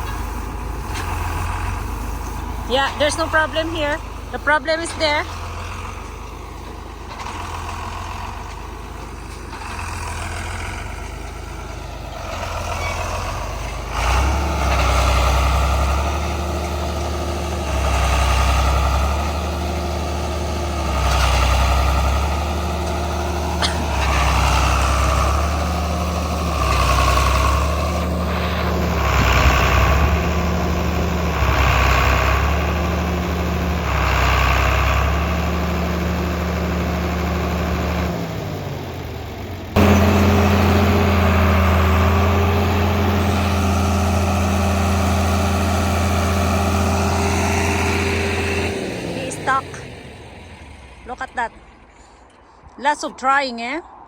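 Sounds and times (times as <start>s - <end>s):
tractor engine running: 0.0s - 53.8s.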